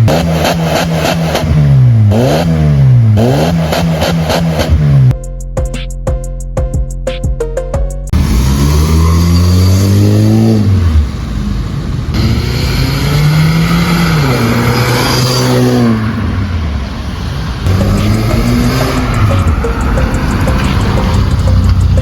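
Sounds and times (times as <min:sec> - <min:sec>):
car engine revving: 0:00.0 - 0:05.2, 0:08.1 - 0:22.0.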